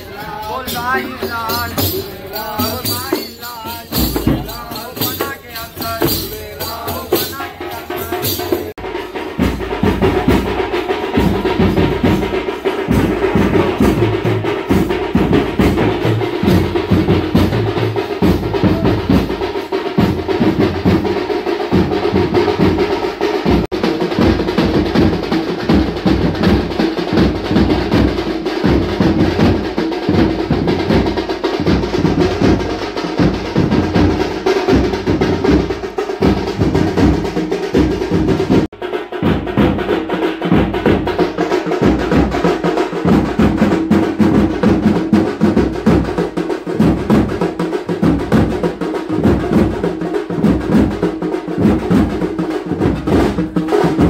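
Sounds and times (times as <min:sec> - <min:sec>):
drums playing: 0:00.0 - 0:54.0.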